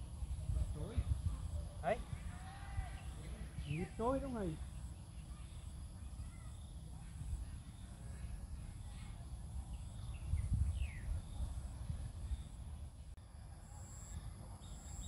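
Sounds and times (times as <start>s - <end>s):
wind buffeting microphone: 0.0s - 13.2s
high insect hum: 0.0s - 15.0s
faint bird chirps: 2.7s - 15.0s.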